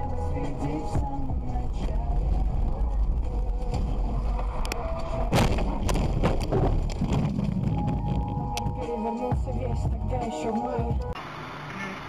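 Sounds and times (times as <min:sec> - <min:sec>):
vehicle road noise: 0:00.0 - 0:12.0.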